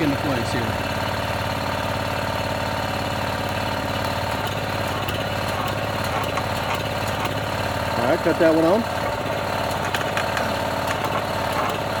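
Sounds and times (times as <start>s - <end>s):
machine engine running steadily: 0.0s - 12.0s.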